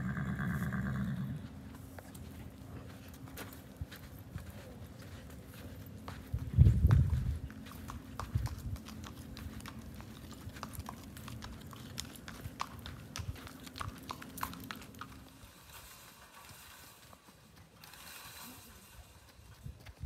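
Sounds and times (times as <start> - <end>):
horse hooves clip-clopping on pavement: 0.1 - 20.0.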